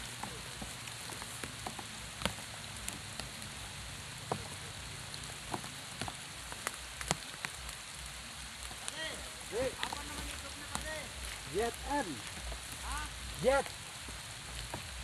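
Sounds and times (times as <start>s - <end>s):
rain falling on a pond: 0.0s - 15.0s.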